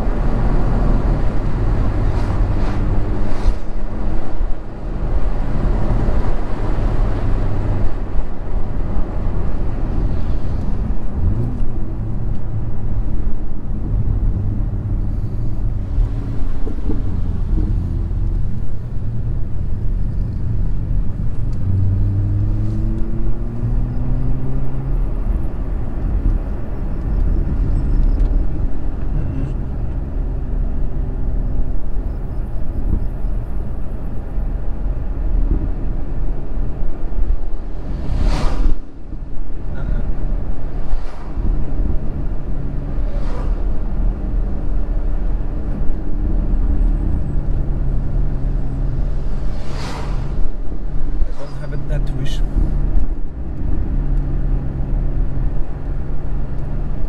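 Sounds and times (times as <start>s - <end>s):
car engine droning: 0.0s - 57.0s
road noise: 0.0s - 57.0s.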